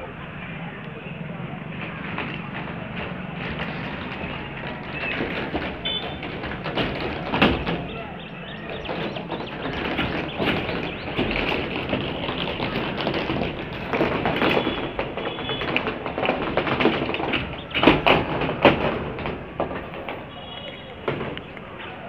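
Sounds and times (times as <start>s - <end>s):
sharp clacks: 0.8s - 22.0s
plastic pipes clattering on metal: 1.8s - 21.7s.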